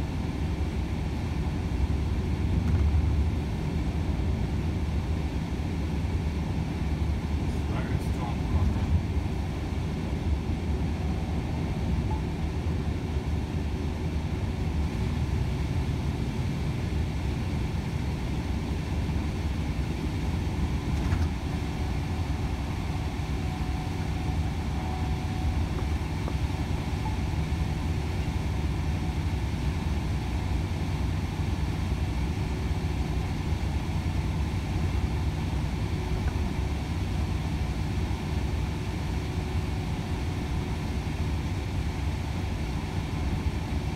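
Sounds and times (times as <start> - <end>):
diesel engine drone: 0.0 - 43.9.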